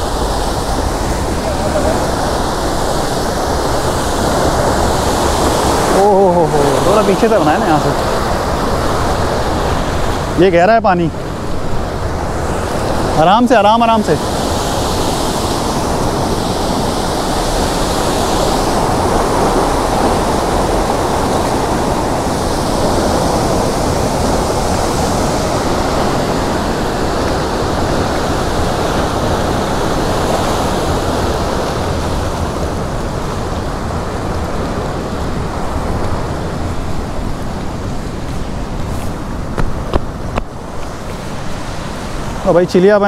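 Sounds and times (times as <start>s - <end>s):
water rushing through spillway: 0.0s - 43.0s.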